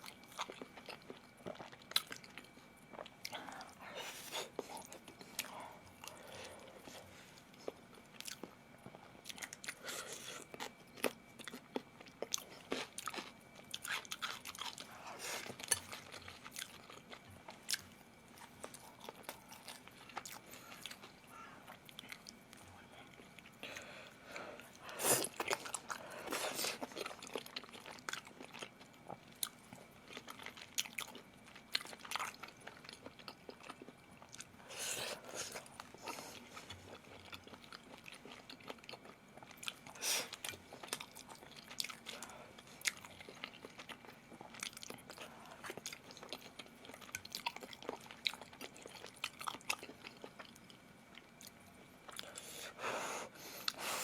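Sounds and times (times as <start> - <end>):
person chewing with mouth clicks: 0.0 - 52.7.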